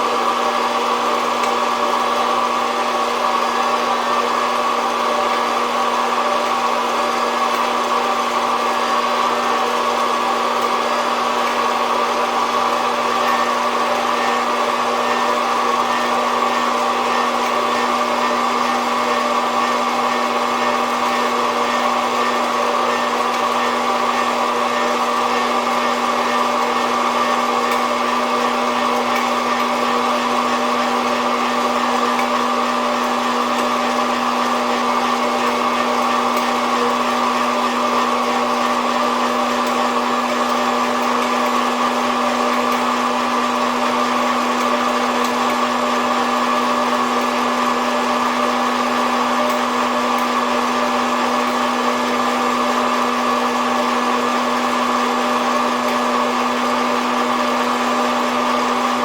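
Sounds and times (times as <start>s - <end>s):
coffee roaster fan humming: 0.0s - 59.0s.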